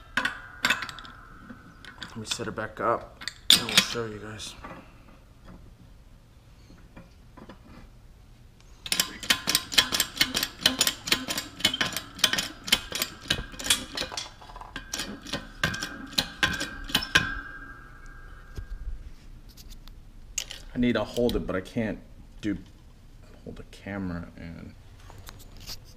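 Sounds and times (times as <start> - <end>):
faint steady whine: 0.0 - 9.2, 11.4 - 25.9.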